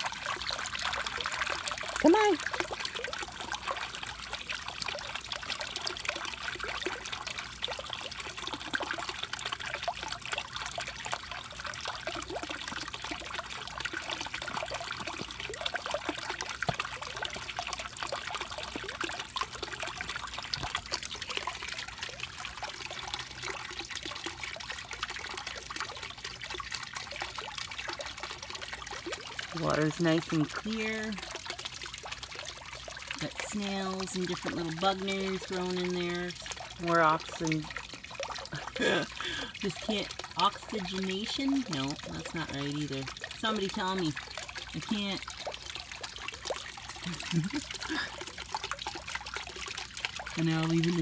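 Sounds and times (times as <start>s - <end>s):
water trickling into a pond: 0.0s - 51.0s.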